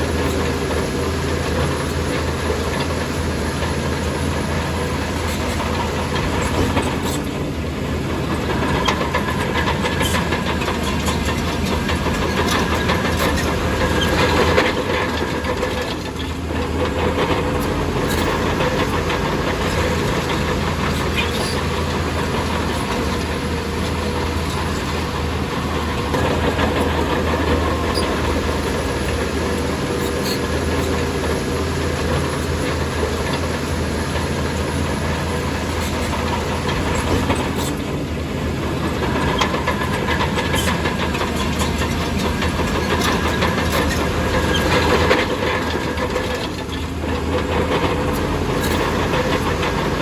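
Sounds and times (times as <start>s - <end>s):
bulldozer diesel engine: 0.0s - 50.0s
steel tracks clattering: 0.0s - 50.0s.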